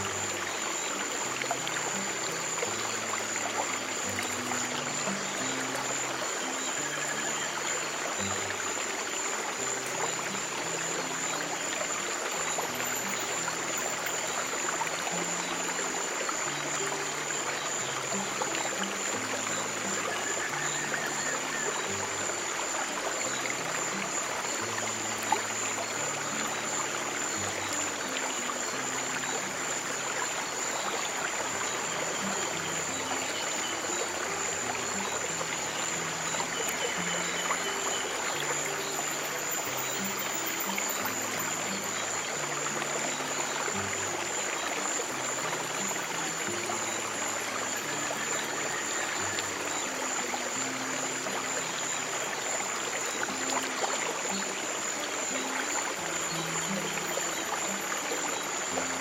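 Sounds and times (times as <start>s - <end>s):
soft low music notes: 0.0s - 59.0s
stream water flowing: 0.0s - 59.0s.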